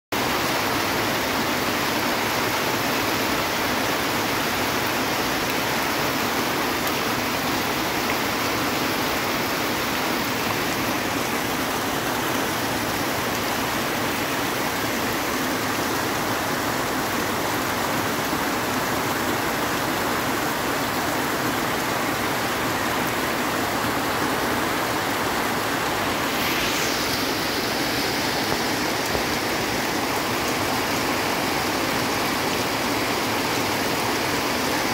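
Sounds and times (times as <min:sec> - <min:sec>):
runoff water rushing: 0:00.1 - 0:34.9
heavy rain pouring: 0:00.2 - 0:34.9.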